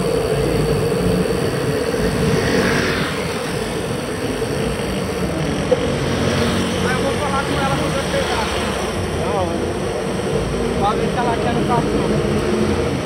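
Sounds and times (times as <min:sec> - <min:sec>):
steady hum: 0:00.0 - 0:13.0
tyre and road noise: 0:00.0 - 0:13.0.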